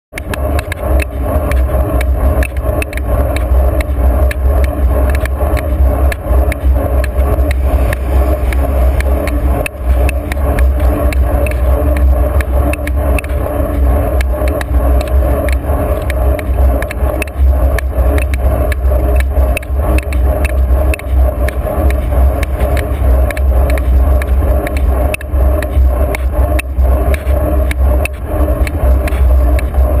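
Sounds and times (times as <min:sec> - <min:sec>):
bicycle road rumble: 0:00.1 - 0:30.0
bike rattles and clicks: 0:00.1 - 0:30.0.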